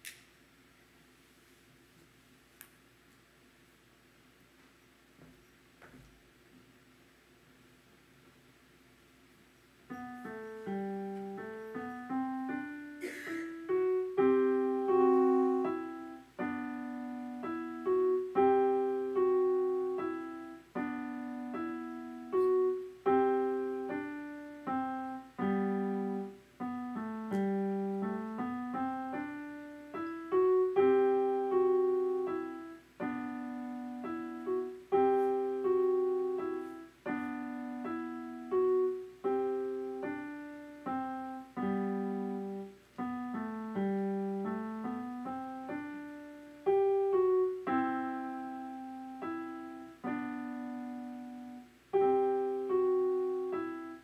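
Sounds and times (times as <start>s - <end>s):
electronic keyboard piano piece: 9.4s - 54.0s.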